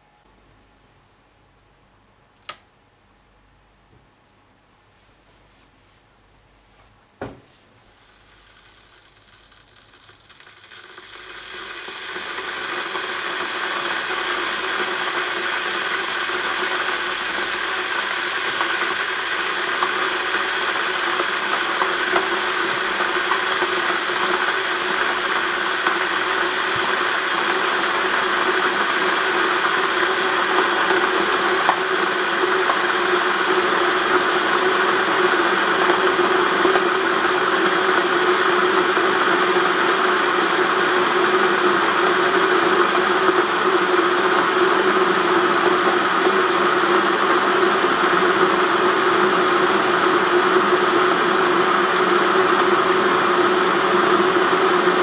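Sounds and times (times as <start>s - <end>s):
electric kettle heating water: 7.2s - 55.0s.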